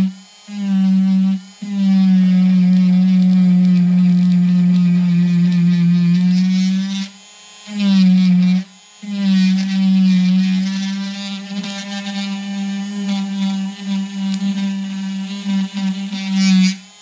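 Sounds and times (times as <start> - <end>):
rotary tool whining: 0.0 - 17.0.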